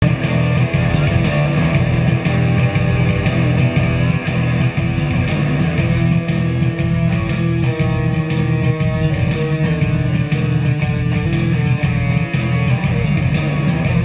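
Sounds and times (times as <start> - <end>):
electric guitar: 0.0 - 14.0
rock band playing loudly: 0.0 - 14.0.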